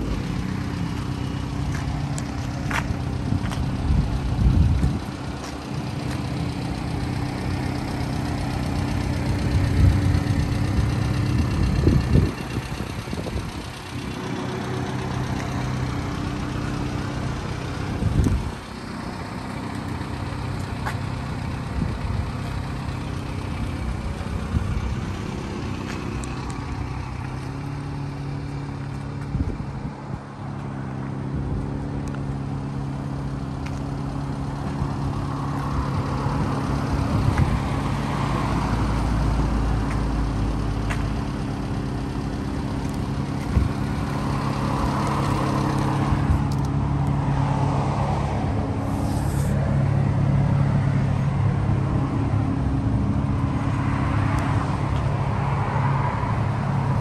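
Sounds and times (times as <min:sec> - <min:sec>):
truck engine idling: 0:00.0 - 0:47.3.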